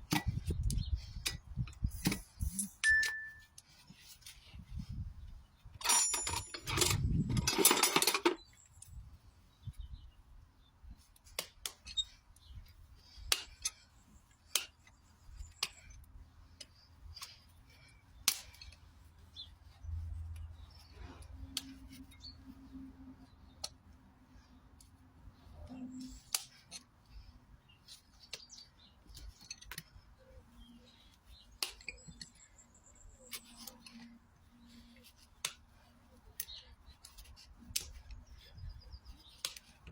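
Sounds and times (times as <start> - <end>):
tools clicking and snipping hoof: 0.0 - 4.4, 5.8 - 9.0, 11.1 - 22.4, 23.5 - 24.0, 25.6 - 39.9.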